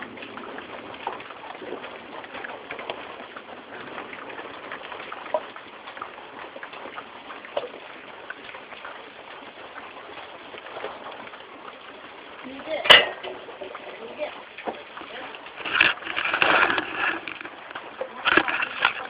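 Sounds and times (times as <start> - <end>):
sharp drip ticks: 0.0 - 15.6
rain falling: 0.0 - 19.0.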